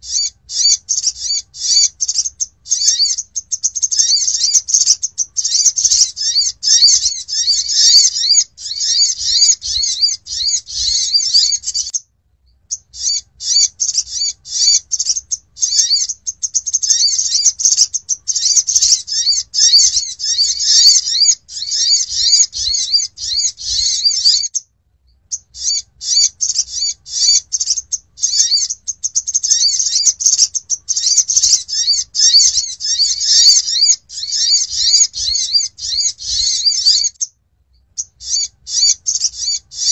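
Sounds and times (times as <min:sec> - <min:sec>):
high-pitched bird chirping: 0:00.0 - 0:39.9.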